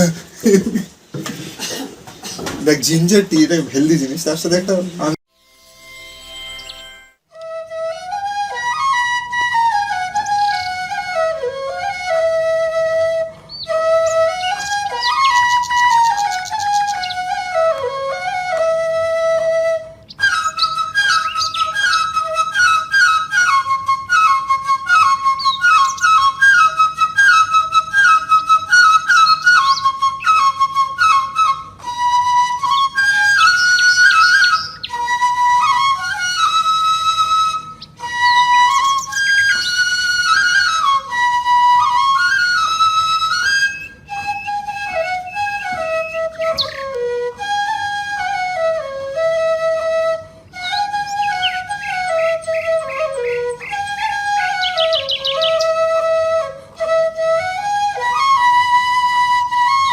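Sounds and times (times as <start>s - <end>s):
flute melody: 2.7s - 59.9s.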